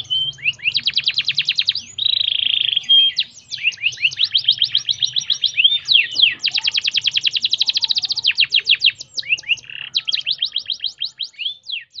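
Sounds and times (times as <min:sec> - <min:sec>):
canary singing with trills: 0:00.0 - 0:12.0.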